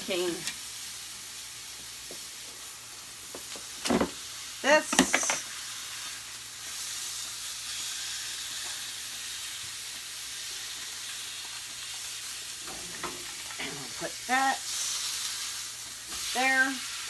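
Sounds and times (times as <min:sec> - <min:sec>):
beef sizzling in a pot: 0:00.0 - 0:17.0.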